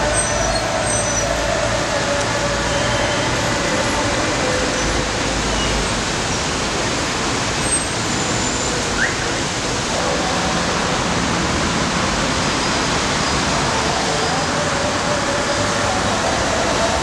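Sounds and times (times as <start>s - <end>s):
city traffic noise: 0.0s - 17.0s.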